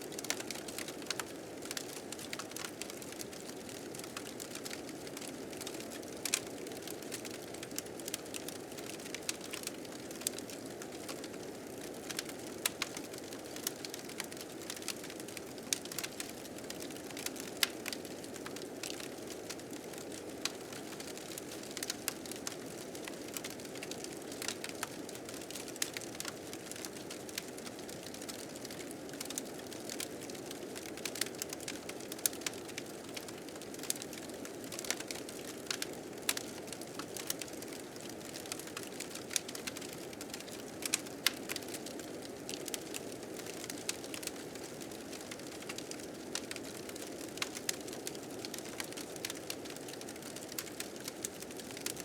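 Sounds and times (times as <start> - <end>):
wood fire crackling and popping: 0.1 - 52.0.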